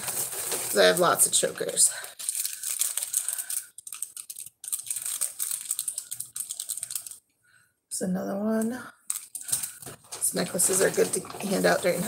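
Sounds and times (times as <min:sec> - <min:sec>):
plastic bag crinkling: 0:00.0 - 0:07.2, 0:09.1 - 0:12.0.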